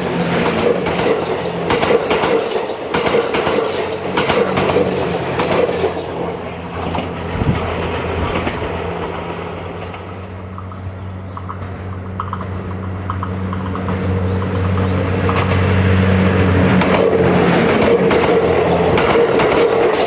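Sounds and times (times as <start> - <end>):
train wheels clicking over rail joints: 0.0 - 20.0.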